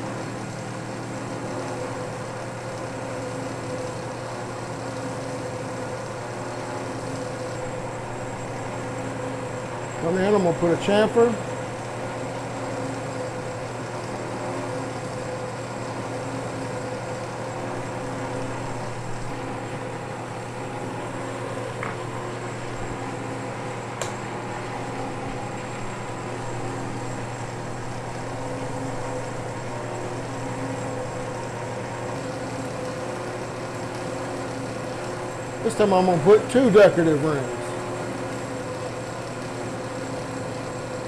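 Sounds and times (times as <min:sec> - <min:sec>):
metal lathe humming: 0:00.0 - 0:41.0.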